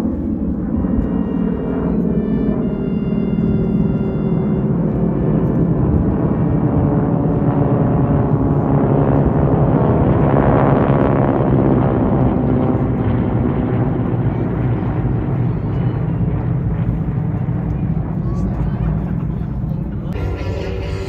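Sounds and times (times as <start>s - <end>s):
propeller planes passing overhead: 0.0s - 21.0s.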